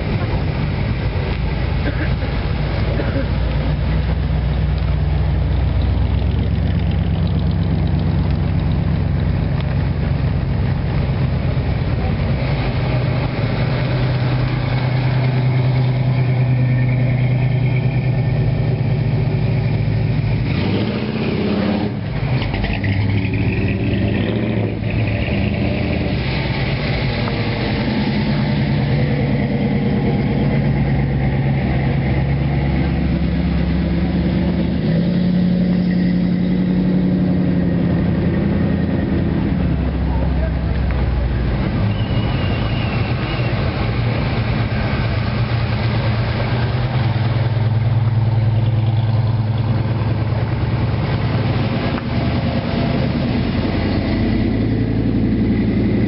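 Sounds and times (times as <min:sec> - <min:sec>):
car engines driving past: 0:00.0 - 0:56.0.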